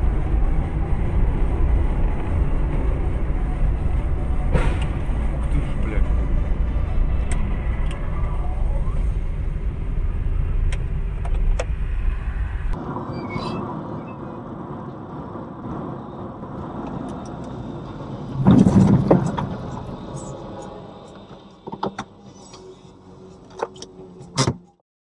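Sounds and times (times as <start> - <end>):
car engine and tyre rumble: 0.0 - 24.8.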